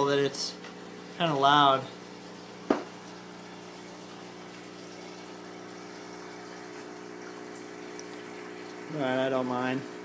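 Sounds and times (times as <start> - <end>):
pump humming: 0.0 - 10.0
rushing water: 0.0 - 10.0.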